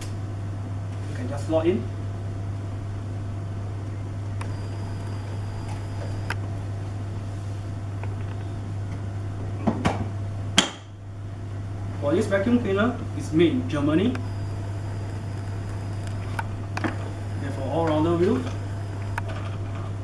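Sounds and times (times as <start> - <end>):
steady low background hum: 0.0 - 20.0.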